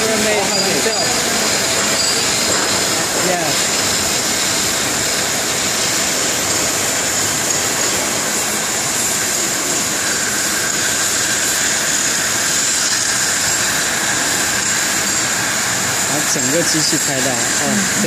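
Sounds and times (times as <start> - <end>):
cutting torch hissing: 0.0 - 18.0.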